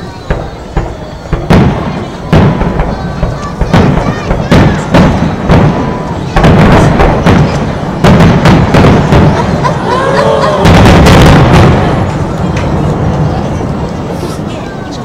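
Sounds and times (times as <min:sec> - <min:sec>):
firework booms and crackle: 0:00.0 - 0:15.0.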